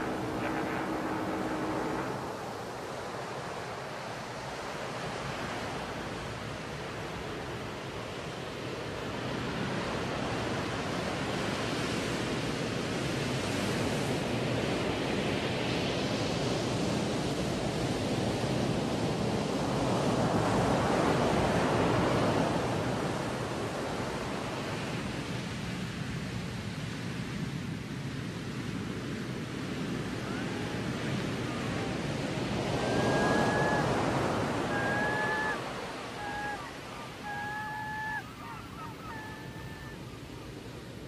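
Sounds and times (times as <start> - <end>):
small waves breaking on sand: 0.0 - 41.0
wind rumbling on microphone: 0.0 - 41.0.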